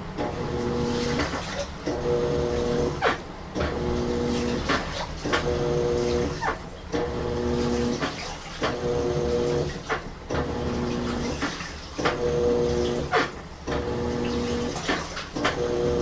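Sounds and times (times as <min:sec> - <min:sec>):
washing machine motor whine: 0:00.0 - 0:16.0
water sloshing: 0:00.0 - 0:16.0.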